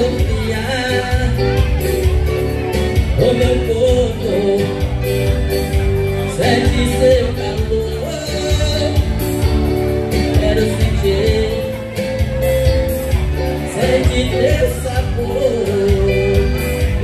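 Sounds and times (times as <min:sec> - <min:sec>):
accordion: 0:00.0 - 0:17.0
band dance beat: 0:00.0 - 0:17.0.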